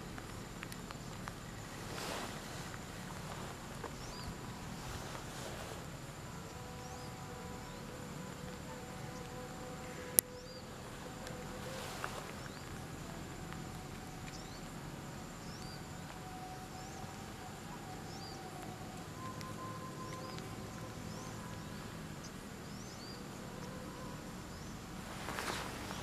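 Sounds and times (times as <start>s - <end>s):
faint insect hum: 0.0s - 26.0s.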